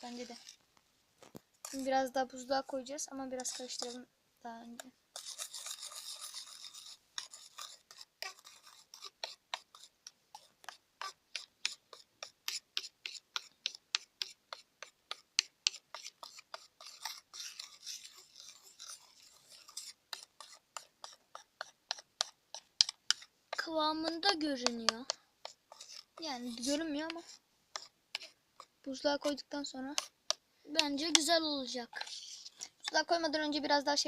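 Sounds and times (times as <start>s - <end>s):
utensil scraping container: 0.0s - 0.6s, 1.6s - 4.1s, 5.1s - 30.2s, 30.8s - 33.8s.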